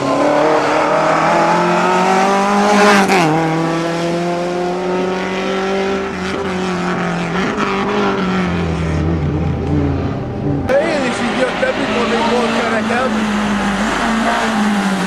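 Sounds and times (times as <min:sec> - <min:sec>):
rally car engine passing at high revs: 0:00.0 - 0:15.0.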